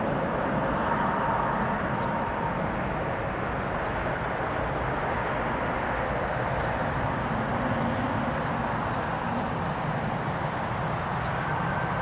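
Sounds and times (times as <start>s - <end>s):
distant jet engines rushing: 0.0s - 12.0s
faint engine whine: 0.0s - 12.0s.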